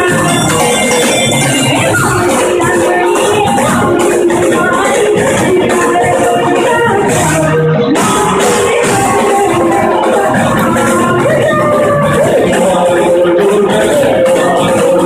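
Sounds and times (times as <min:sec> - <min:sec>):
dance music: 0:00.0 - 0:15.0.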